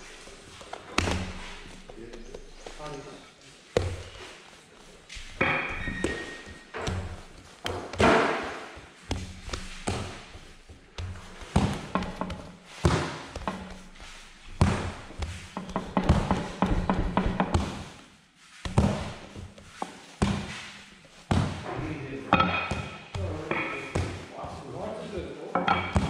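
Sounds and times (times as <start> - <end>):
rolling pin rolling over dough: 0.0 - 26.0
rolling pin knocks and thuds: 0.1 - 3.0, 3.7 - 18.0, 18.6 - 24.3, 25.5 - 26.0.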